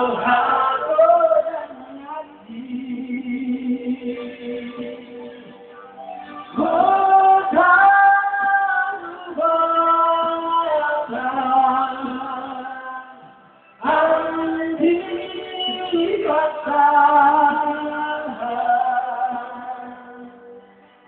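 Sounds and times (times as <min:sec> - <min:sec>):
man singing into microphone: 0:00.0 - 0:05.8, 0:06.6 - 0:20.7.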